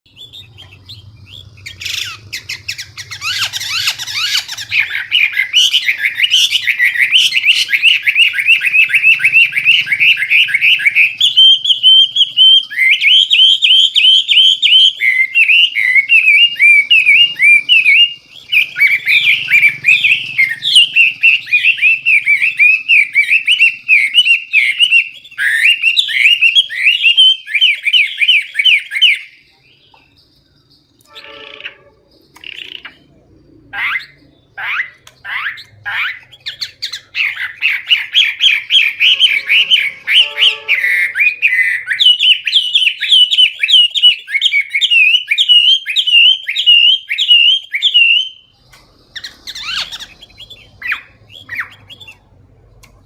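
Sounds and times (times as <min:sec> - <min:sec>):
bird singing whistled notes: 0:00.1 - 0:52.2.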